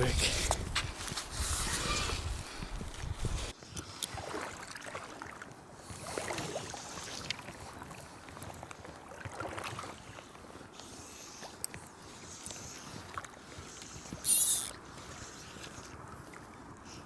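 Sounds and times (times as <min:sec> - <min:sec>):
river water sloshing and splashing: 0:03.0 - 0:17.0.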